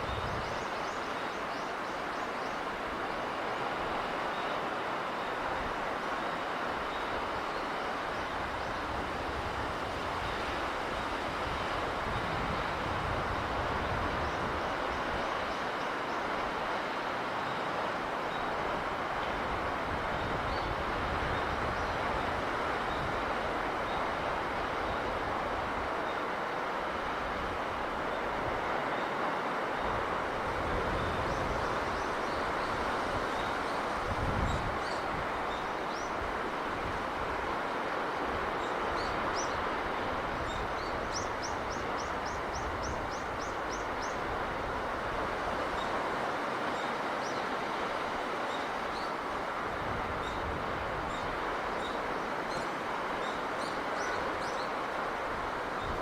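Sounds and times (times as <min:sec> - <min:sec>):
sea breeze rushing: 0:00.0 - 0:56.0
low wind gust rumble: 0:02.6 - 0:56.0.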